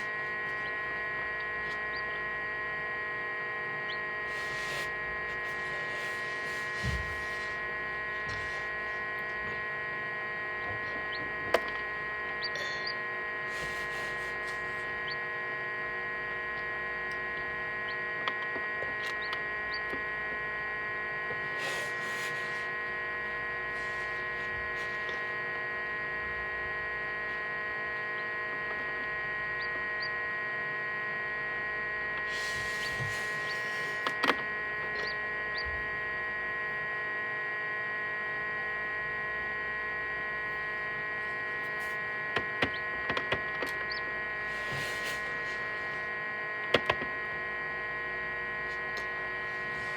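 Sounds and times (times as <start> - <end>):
egg incubator humming: 0.0 - 49.9.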